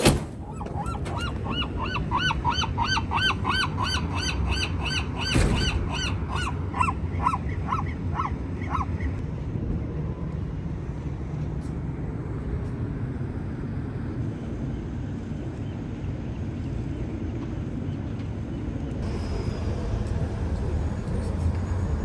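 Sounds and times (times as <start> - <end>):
distant city traffic rumble: 0.0 - 22.0.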